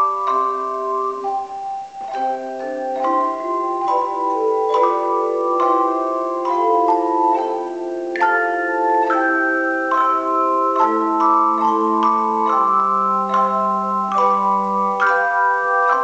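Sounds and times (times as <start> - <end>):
tone chimes ringing: 0.0 - 16.0.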